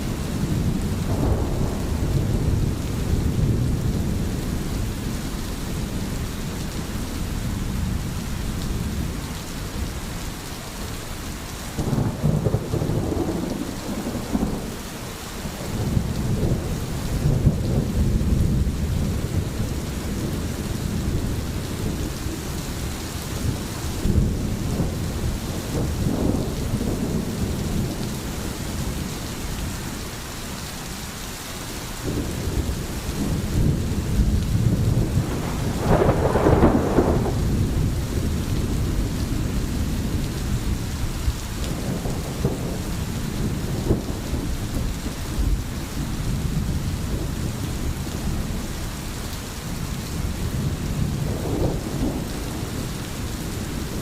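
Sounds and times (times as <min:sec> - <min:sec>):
thunder rumbling: 0:00.0 - 0:09.9, 0:11.7 - 0:30.0, 0:32.0 - 0:54.0
steady rain: 0:00.0 - 0:54.0.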